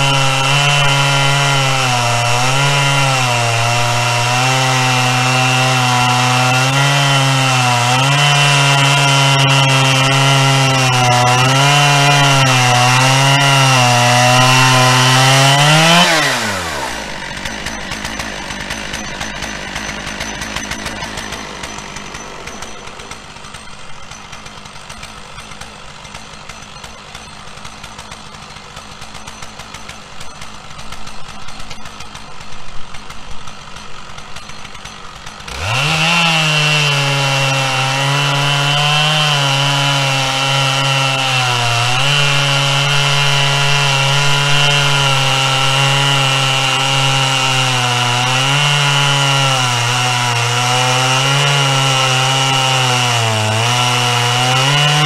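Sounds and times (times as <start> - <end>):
chainsaw clattering: 0.0 - 55.0
chainsaw cutting log: 0.0 - 55.0
chainsaw idling: 0.0 - 55.0.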